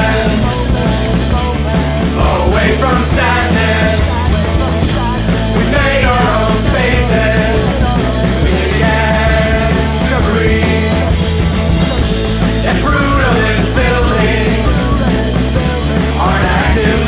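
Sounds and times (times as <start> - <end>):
punk rock band playing: 0.0 - 17.0.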